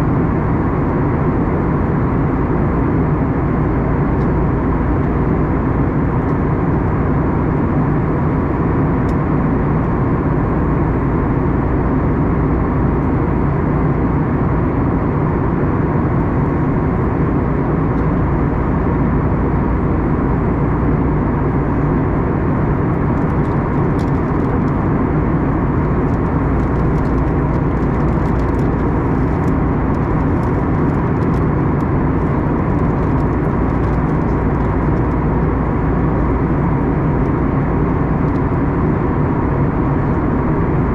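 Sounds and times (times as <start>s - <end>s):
aircraft engine and airflow roar: 0.0s - 40.9s.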